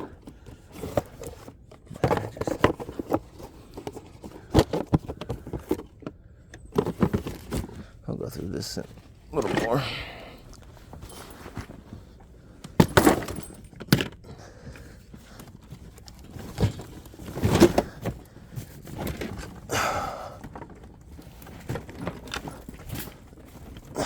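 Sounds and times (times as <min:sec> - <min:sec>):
objects knocking and clattering: 0:00.0 - 0:07.9, 0:10.6 - 0:24.0.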